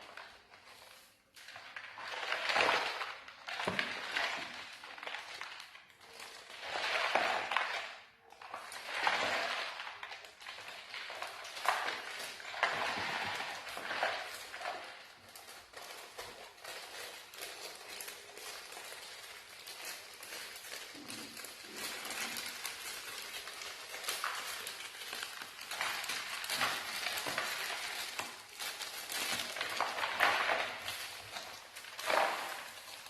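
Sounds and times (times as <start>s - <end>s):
plastic packaging crinkling: 0.0s - 33.0s.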